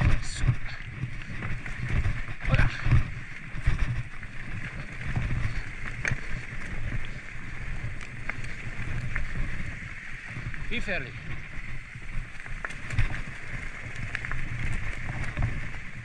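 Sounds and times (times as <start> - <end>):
bike tyres rumbling on dirt: 0.0 - 16.0.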